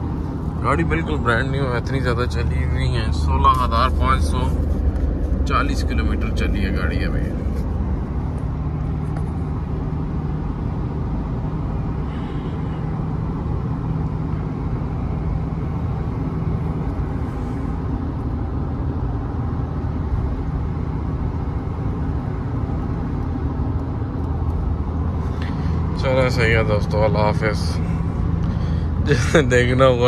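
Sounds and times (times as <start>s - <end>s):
pickup truck engine hum: 0.0s - 30.0s
road and tyre rumble: 0.0s - 30.0s.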